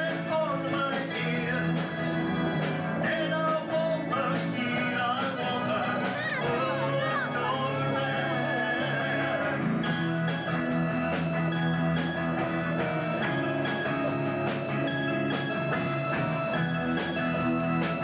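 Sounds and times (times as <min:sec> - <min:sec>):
drum kit beat: 0:00.0 - 0:18.0
electric guitar chords: 0:00.0 - 0:18.0.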